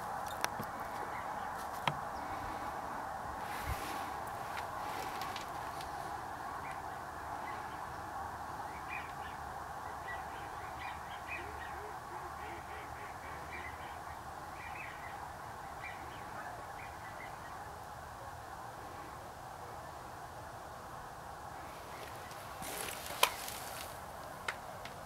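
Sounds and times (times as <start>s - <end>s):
geese calling: 0.0s - 17.9s, 21.6s - 24.0s.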